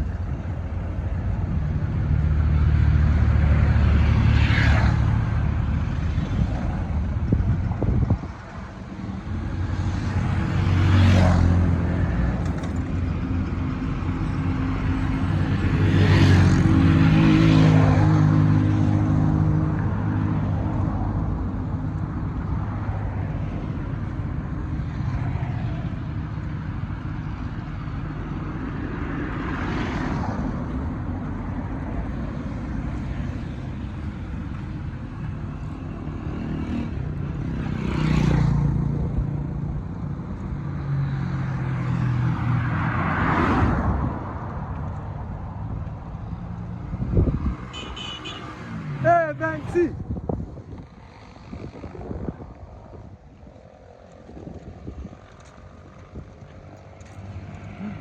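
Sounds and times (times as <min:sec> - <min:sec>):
road traffic noise: 0:00.0 - 0:58.0
vehicles passing by: 0:00.0 - 0:58.0.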